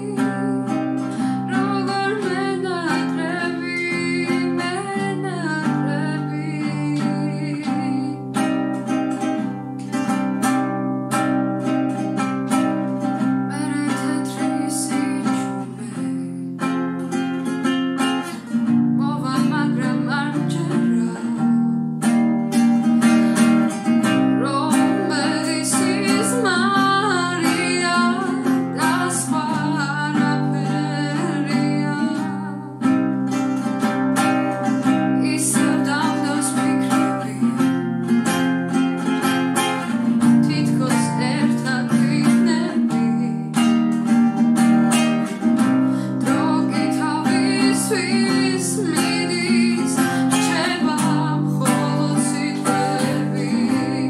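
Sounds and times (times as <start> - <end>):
guitar strumming: 0.0 - 54.0
woman singing: 0.0 - 54.0.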